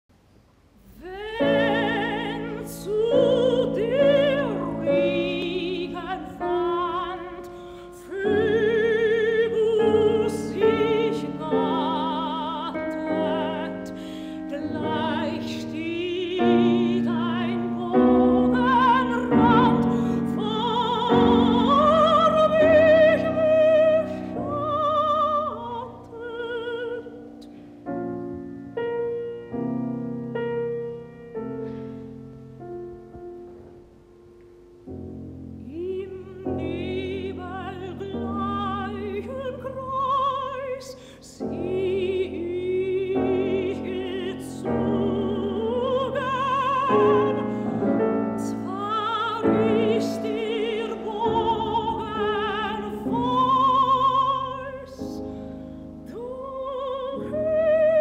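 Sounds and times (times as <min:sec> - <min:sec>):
soprano singing: 0:00.8 - 0:58.0
piano accompaniment: 0:01.2 - 0:58.0.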